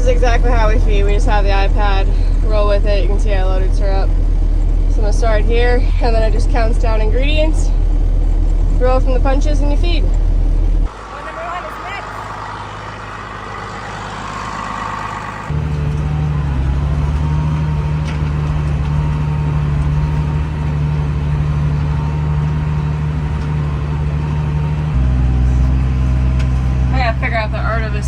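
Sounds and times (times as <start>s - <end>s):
tractor engine revving: 0.0s - 28.0s.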